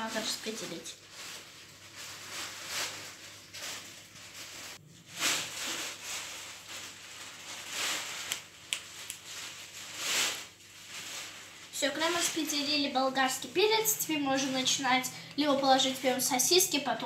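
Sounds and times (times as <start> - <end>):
soft rustling: 0.1 - 16.4.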